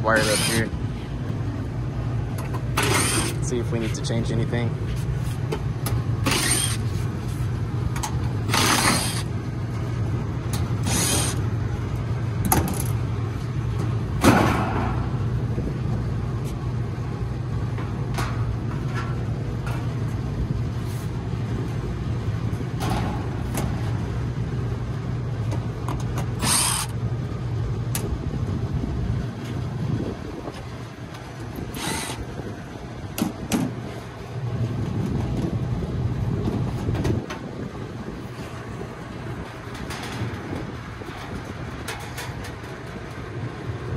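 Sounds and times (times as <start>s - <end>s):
hvac equipment humming: 0.0s - 43.9s.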